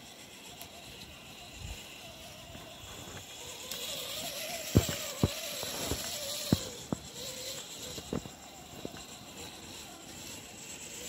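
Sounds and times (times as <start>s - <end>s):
toy car motor whining: 0.0s - 11.0s.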